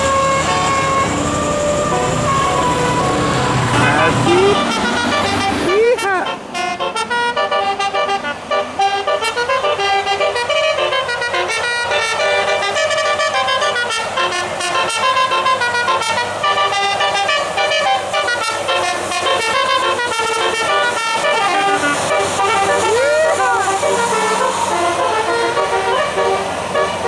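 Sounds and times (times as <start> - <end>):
musical air horn tune: 0.0 - 27.0.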